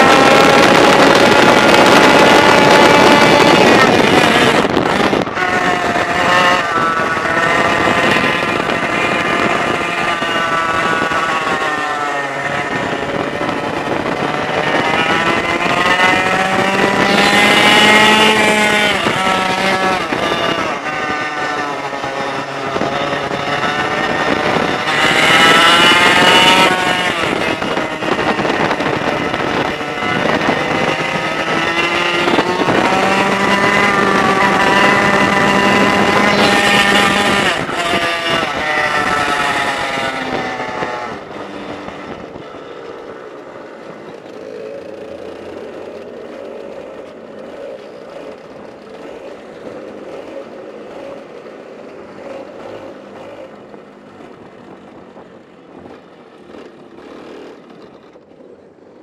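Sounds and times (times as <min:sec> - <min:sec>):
kart engine racing: 0:00.0 - 0:59.0.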